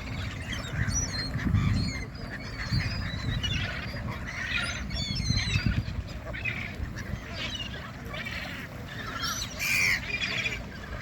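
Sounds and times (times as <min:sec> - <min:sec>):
ducks and gulls calling: 0:00.0 - 0:11.0.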